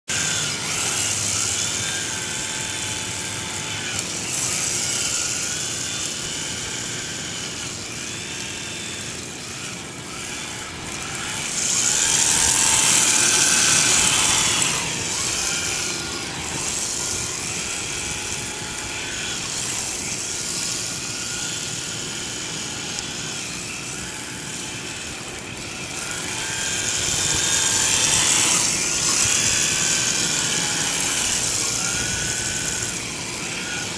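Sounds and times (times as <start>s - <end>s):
small electric motor whining: 0.0s - 33.9s.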